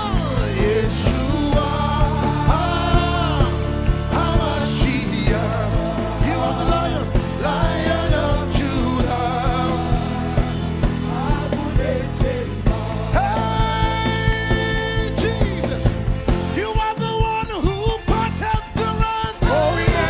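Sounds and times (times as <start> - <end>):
gospel band playing: 0.0 - 20.0.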